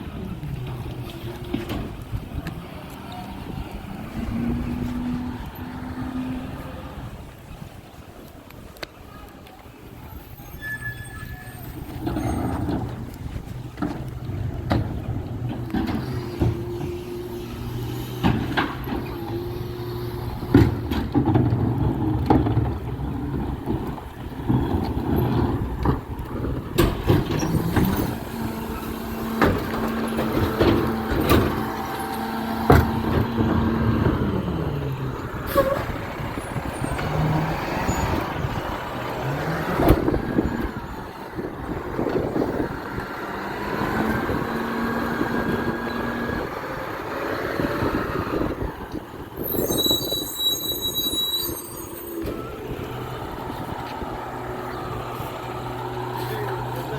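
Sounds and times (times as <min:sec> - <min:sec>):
hydraulics running: 0:00.0 - 0:08.7, 0:09.6 - 0:56.9
diesel engine idling and revving: 0:00.0 - 0:08.8, 0:11.1 - 0:56.9.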